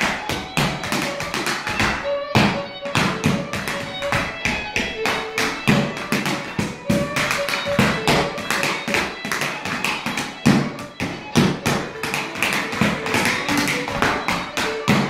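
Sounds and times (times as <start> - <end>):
fiddle music: 0.0 - 15.0
stepdance shoes tapping on boards: 0.0 - 15.0.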